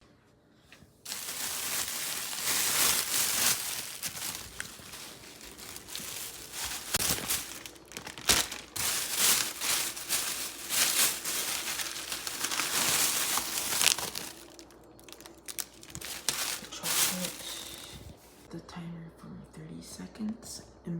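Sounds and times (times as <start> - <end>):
packaging crinkling and rustling: 1.1 - 18.5.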